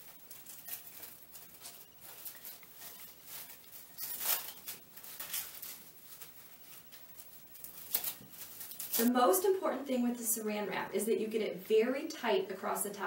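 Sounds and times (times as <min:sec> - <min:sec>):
plastic wrap crinkling: 0:00.0 - 0:12.8.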